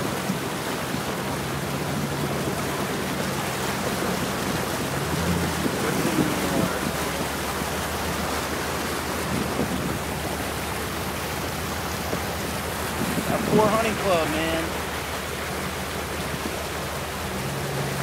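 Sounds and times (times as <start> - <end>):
engine running at low speed: 0.0 - 18.0
water rushing and sloshing: 0.0 - 18.0.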